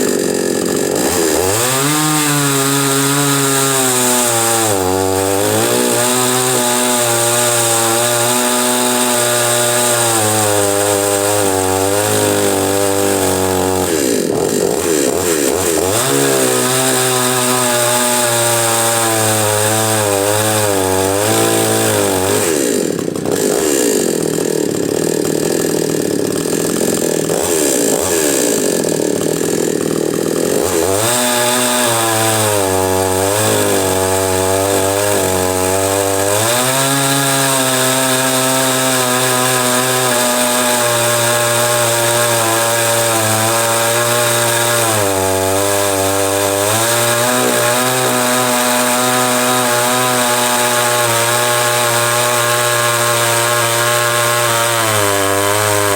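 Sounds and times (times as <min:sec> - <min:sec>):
two-stroke chainsaw running: 0:00.0 - 0:55.9.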